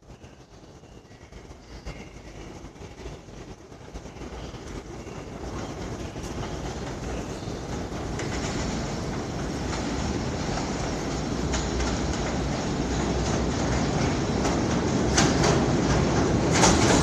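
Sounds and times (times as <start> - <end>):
train rumble and wheel noise: 0.0 - 17.0.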